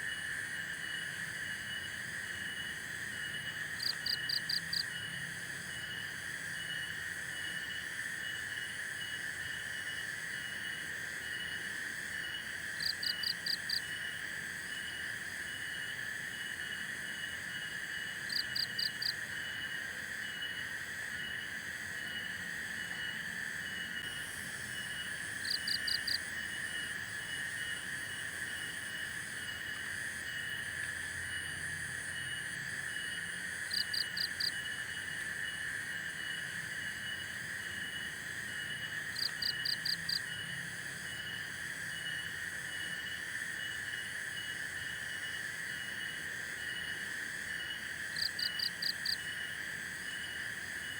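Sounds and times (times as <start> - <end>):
insects droning: 0.0 - 50.9
pulsing insect chirp: 6.6 - 50.9.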